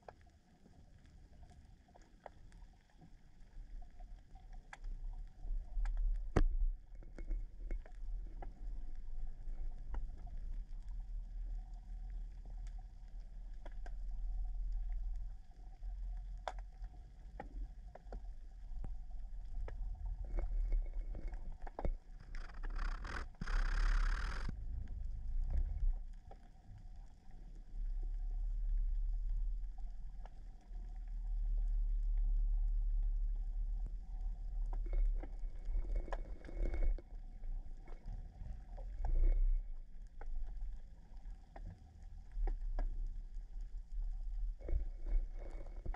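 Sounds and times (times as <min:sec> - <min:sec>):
underwater rumble of moving water: 0:00.0 - 0:45.9.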